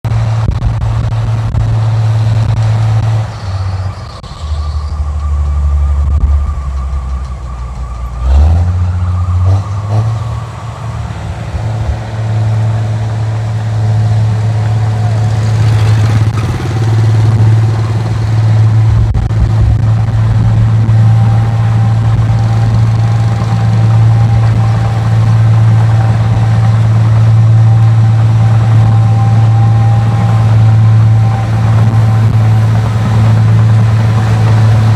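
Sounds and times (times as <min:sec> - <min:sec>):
combine harvester engine drone: 0:00.0 - 0:34.9
thin whine: 0:00.1 - 0:34.9.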